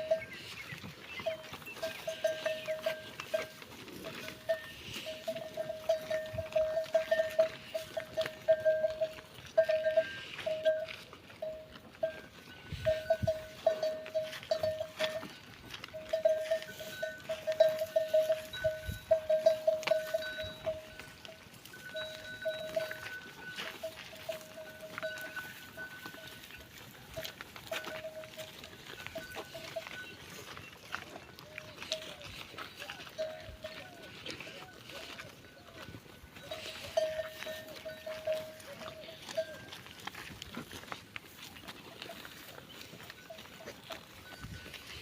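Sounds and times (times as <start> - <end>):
animal bell clinking: 0.0 - 45.0.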